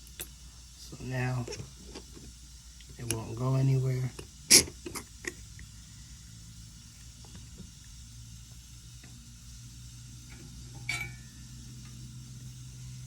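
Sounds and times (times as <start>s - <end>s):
soldering iron sizzling: 0.0s - 13.0s
steady low hum: 0.0s - 13.0s.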